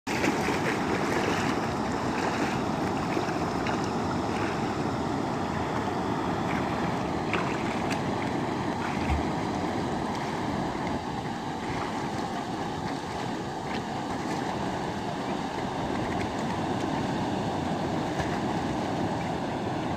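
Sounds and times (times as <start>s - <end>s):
faint splashes from wading: 0.1s - 19.5s
river rushing over rapid: 0.1s - 19.9s.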